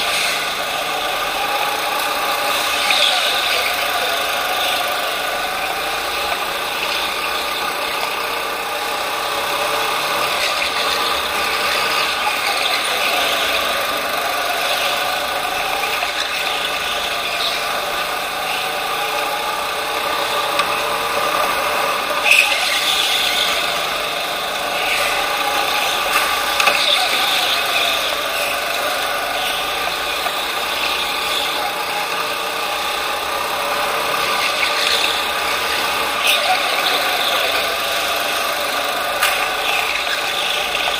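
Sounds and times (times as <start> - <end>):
go-kart engine whine: 0.0 - 40.9.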